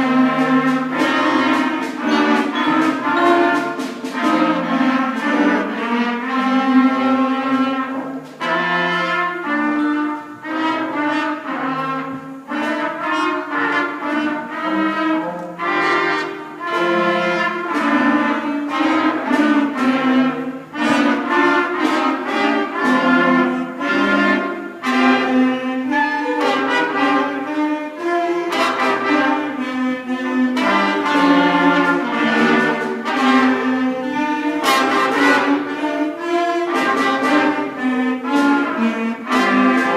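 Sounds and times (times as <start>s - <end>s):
concert band playing minor tune: 0.0s - 39.9s.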